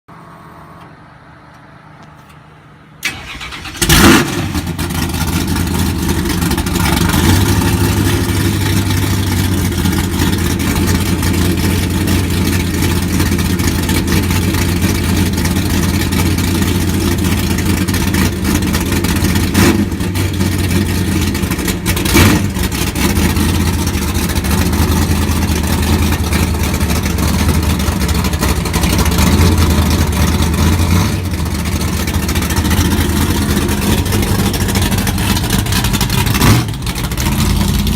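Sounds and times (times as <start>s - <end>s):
truck engine idling: 0.1s - 37.9s
engine cranking: 3.0s - 37.9s.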